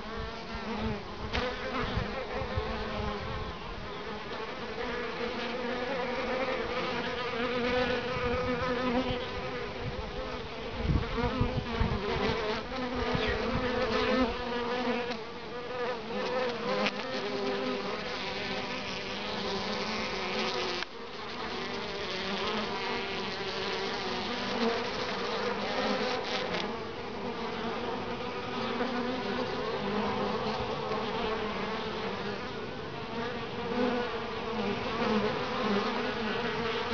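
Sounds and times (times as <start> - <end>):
honeybees buzzing: 0.0 - 36.9.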